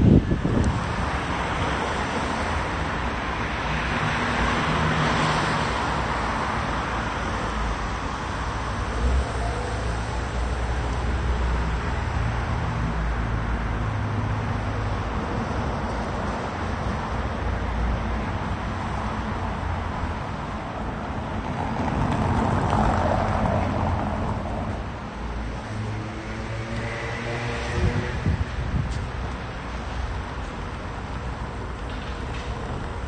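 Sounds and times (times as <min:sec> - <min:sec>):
street traffic noise: 0:00.0 - 0:33.0.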